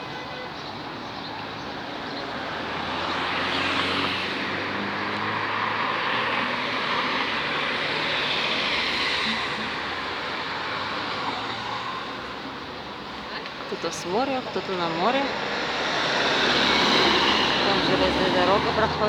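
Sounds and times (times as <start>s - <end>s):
vehicle engines: 0.0s - 19.0s.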